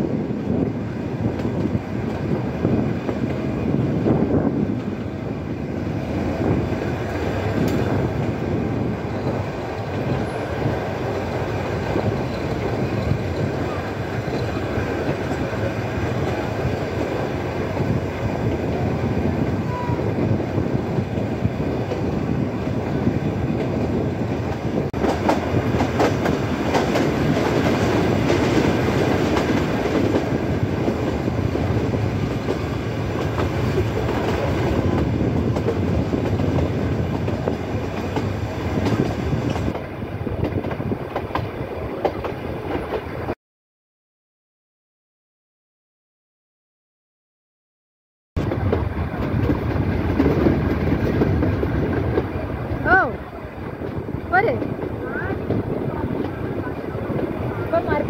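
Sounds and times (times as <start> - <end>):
train wheels rumbling on rails: 0.0 - 43.4, 48.4 - 58.0.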